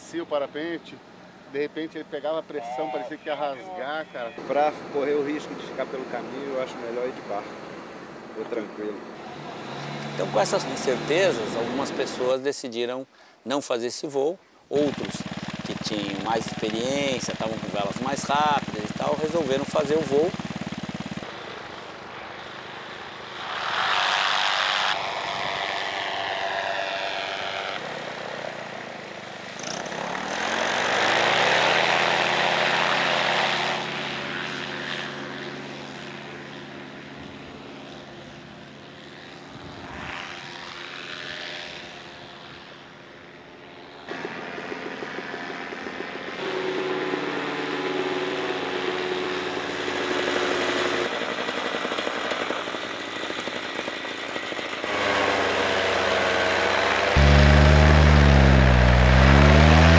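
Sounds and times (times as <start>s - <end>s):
paramotor engines droning: 2.0s - 12.4s, 14.7s - 59.9s.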